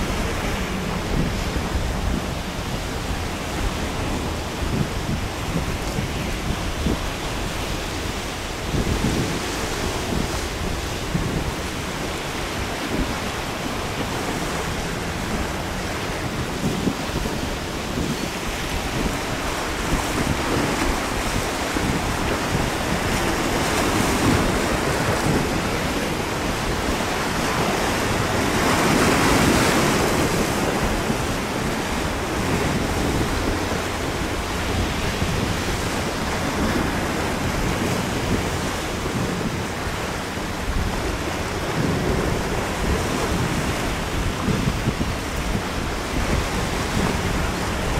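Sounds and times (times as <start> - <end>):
waves breaking: 0.0 - 47.9
wind buffeting microphone: 0.0 - 47.9.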